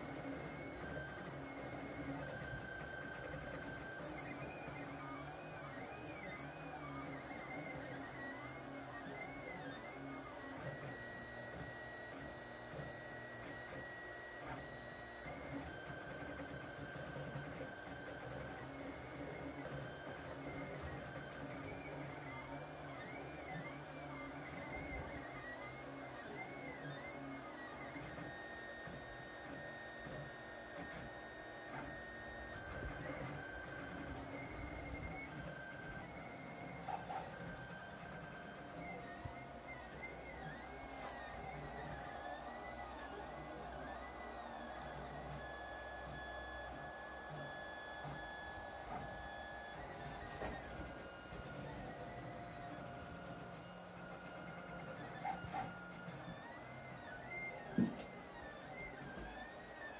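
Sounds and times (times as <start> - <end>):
printer stepper motors whining: 0.0 - 59.9.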